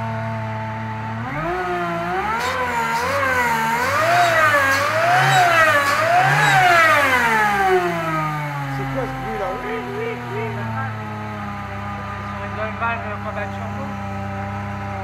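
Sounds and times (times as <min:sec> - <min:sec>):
supercharged car engine revving: 0:00.0 - 0:15.0.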